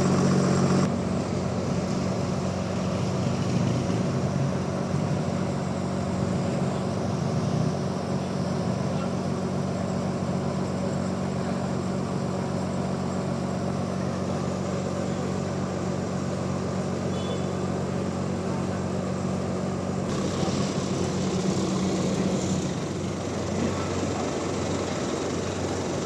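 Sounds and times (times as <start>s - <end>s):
hissy rough machine noise: 0.0s - 26.0s
sawmill machinery engine running: 0.0s - 26.0s.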